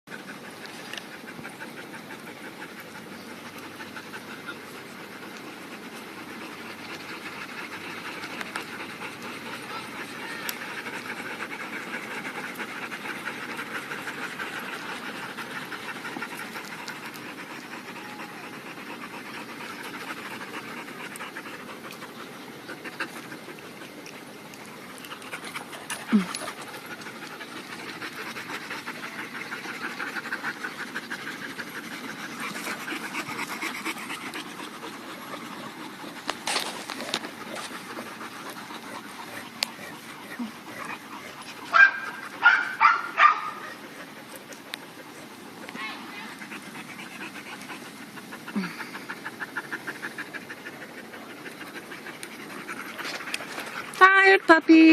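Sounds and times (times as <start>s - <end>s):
dogs panting: 0.0s - 54.9s.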